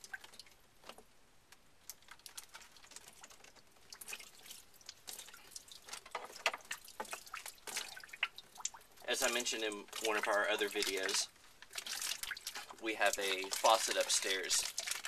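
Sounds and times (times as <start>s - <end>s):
water dripping and splattering: 0.0s - 1.0s, 1.8s - 15.0s.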